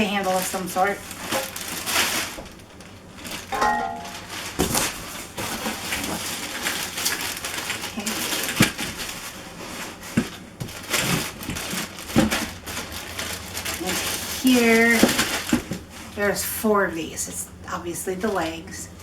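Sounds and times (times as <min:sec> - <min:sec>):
plastic wrapping crinkling: 0:00.0 - 0:16.5.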